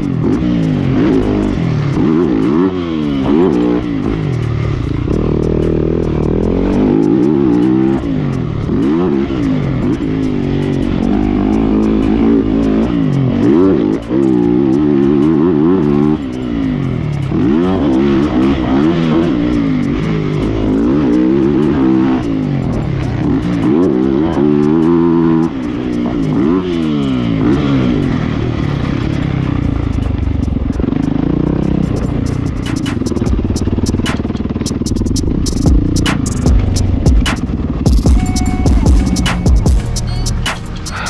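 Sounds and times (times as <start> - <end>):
motocross bike engine revving: 0.0 - 41.0.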